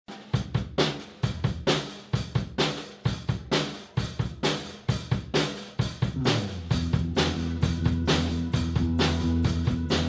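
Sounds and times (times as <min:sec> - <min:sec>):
drum kit playing a groove: 0:00.1 - 0:10.0.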